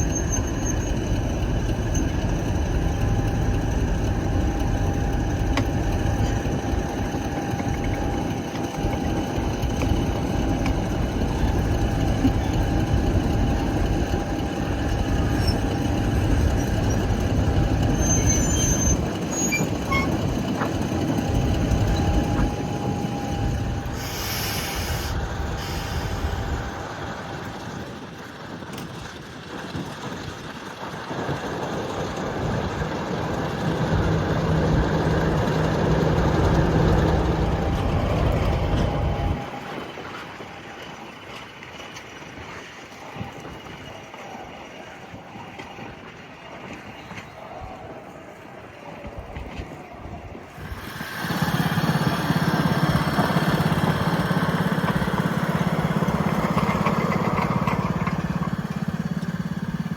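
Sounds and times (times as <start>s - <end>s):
train engine humming: 0.0s - 59.9s.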